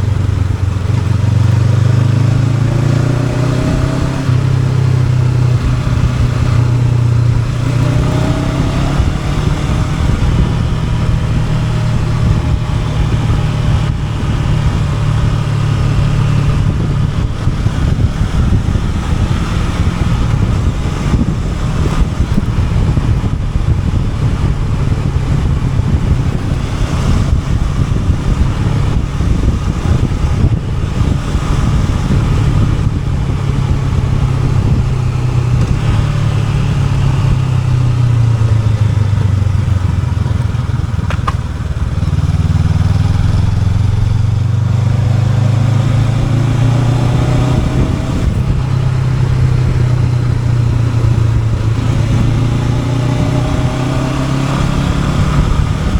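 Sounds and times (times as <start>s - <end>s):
motorcycle engine running: 0.0s - 55.9s
wind noise: 0.0s - 55.9s.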